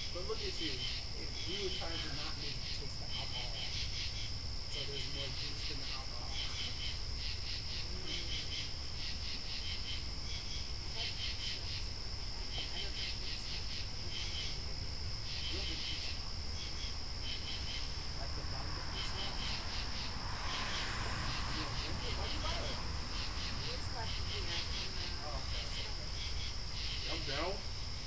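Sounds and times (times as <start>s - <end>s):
insect chirps: 0.0s - 28.0s
insects droning: 0.0s - 28.0s.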